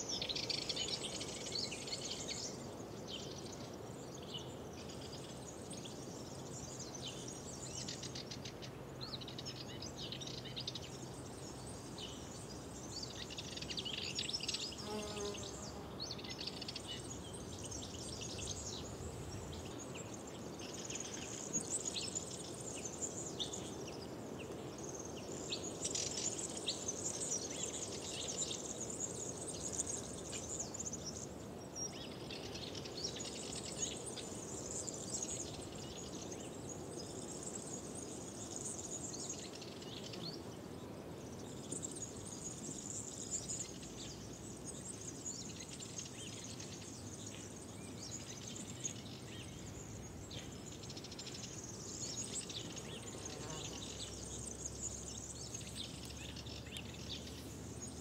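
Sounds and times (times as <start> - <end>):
steady low background noise: 0.0 - 58.0.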